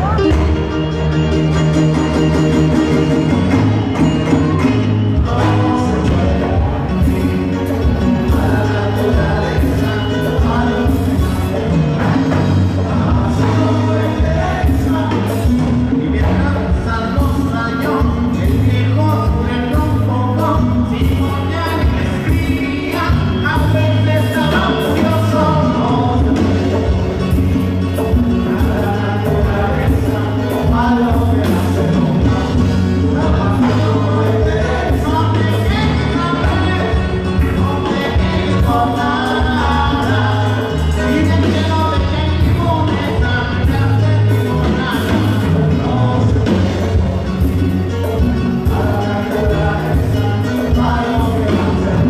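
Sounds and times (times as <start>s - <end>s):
bass guitar: 0.0s - 52.0s
congas: 0.0s - 52.0s
drums: 0.0s - 52.0s
electric guitars: 0.0s - 52.0s
latin band playing: 0.0s - 52.0s
person singing: 0.0s - 52.0s.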